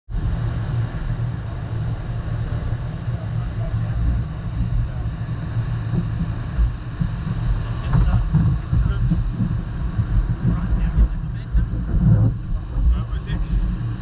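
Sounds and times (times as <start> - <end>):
jet ski engine rumble: 0.1 - 14.0
wind buffeting microphone: 0.1 - 14.0.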